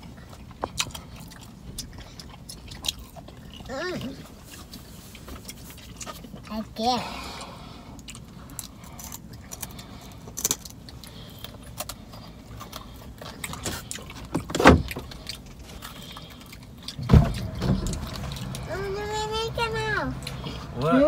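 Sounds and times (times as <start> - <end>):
chewing with wet mouth clicks: 0.0 - 18.7, 20.2 - 20.9.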